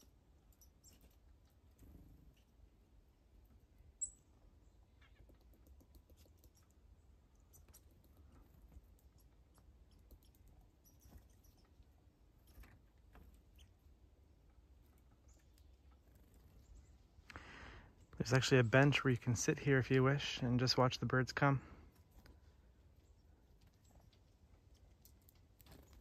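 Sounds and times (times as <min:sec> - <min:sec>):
animals feeding at bird feeder: 0:00.0 - 0:26.0.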